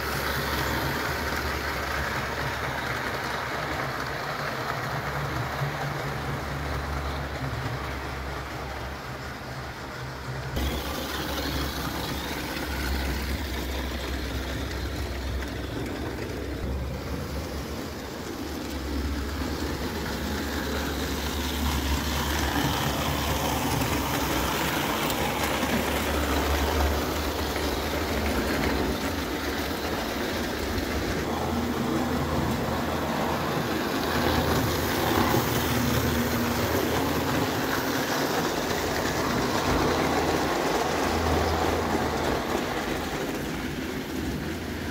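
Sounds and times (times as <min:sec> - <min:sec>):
model train motor hum: 0:00.0 - 0:44.9
wheels rolling on tin rails: 0:00.0 - 0:44.9.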